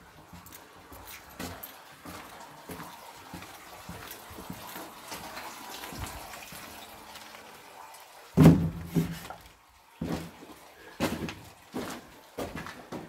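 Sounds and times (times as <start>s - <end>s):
footsteps on concrete stairs: 0.0s - 6.2s, 8.4s - 13.0s.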